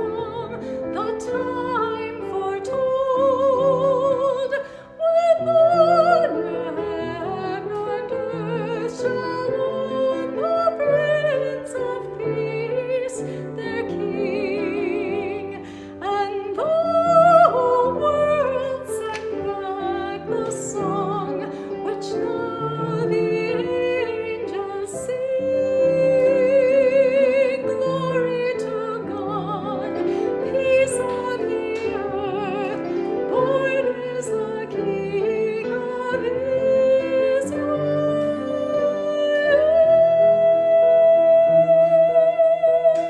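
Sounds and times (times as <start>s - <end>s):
classical solo voice singing: 0.0s - 43.0s
piano accompaniment: 0.0s - 43.0s.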